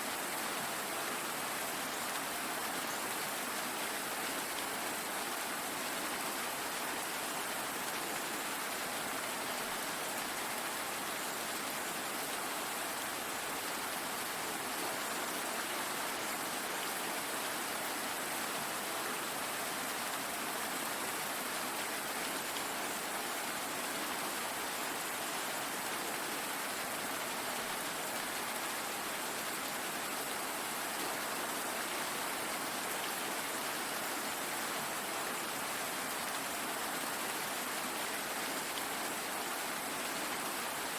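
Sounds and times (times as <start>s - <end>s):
steady rain pattering: 0.0s - 40.9s.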